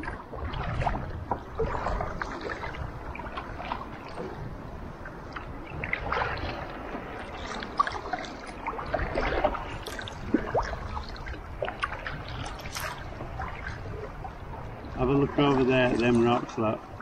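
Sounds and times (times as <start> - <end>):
paddle splashes and drips: 0.0 - 17.0
water lapping at hull: 0.0 - 17.0.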